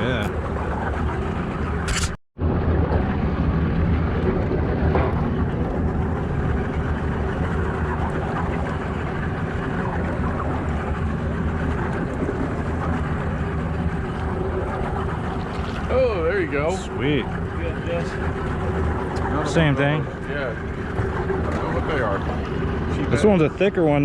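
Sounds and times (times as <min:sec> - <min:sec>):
boat engine running low: 0:00.0 - 0:24.0
water noise: 0:00.0 - 0:24.0
wind: 0:00.0 - 0:24.0.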